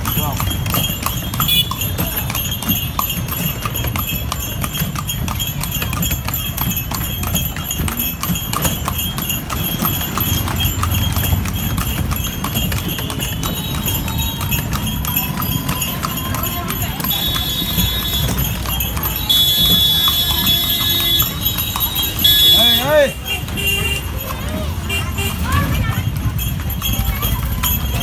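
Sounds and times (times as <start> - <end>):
horse hooves on brick: 0.0 - 28.0.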